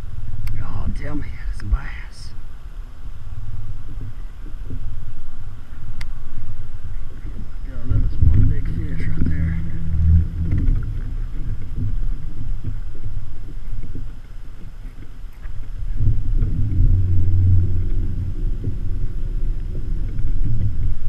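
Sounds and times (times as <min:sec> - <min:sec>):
muffled rumble of kayak handling: 0:00.0 - 0:21.0.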